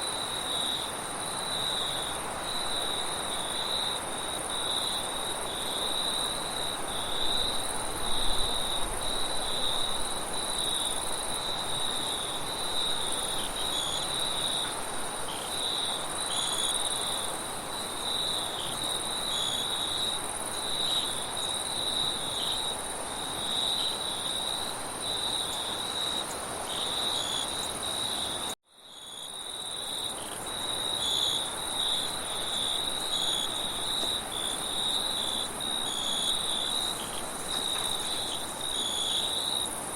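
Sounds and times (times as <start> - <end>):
crickets chirping: 0.0 - 39.9
higher insect chorus: 0.0 - 39.9.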